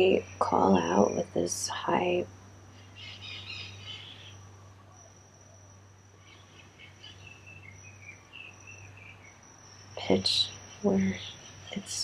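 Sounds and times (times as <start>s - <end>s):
high-pitched insect trilling: 0.0s - 12.0s
low steady hum: 0.0s - 12.0s.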